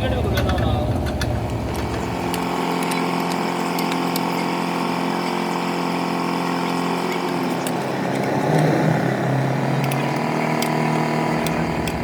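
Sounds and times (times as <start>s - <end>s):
motor running steadily: 0.0s - 12.0s.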